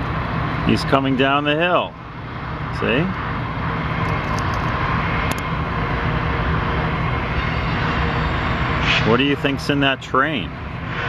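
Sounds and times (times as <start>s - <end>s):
diesel locomotive drone: 0.0s - 11.0s
faint steady whine: 0.0s - 11.0s.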